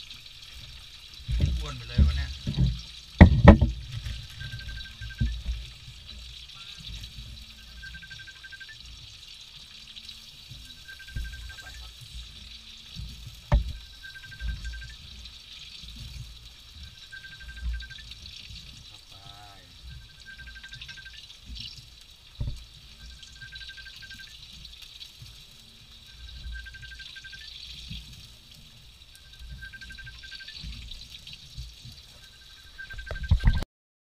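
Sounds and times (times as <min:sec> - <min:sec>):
broth simmering and bubbling: 0:00.0 - 0:33.6.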